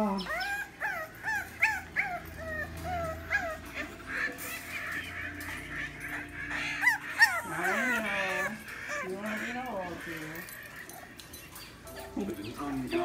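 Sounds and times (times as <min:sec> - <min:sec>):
puppies whimpering and yipping: 0:00.0 - 0:13.0.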